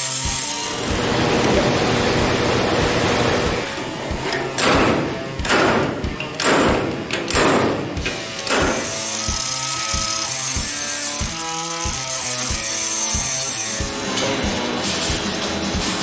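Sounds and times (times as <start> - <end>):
die grinder grinding metal: 0.0 - 5.4, 8.0 - 16.0.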